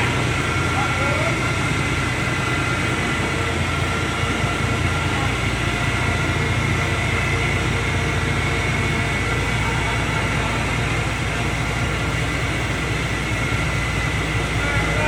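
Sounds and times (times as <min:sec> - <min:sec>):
diesel engine rumbling: 0:00.0 - 0:15.0
high machine whine: 0:00.0 - 0:15.0.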